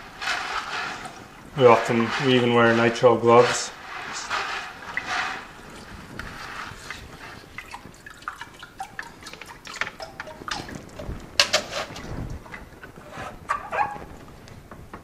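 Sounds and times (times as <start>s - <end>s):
water sloshing in bucket: 0.0s - 14.2s
water drips and small splashes: 0.0s - 14.6s.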